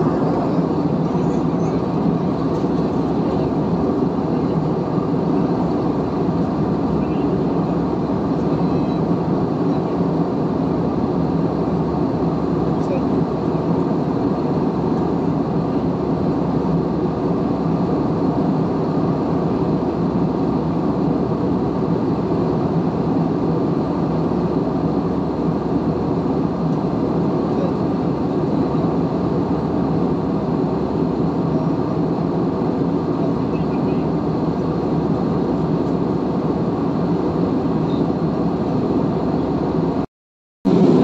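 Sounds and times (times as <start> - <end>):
airliner cabin drone: 0.0 - 40.1, 40.7 - 41.0.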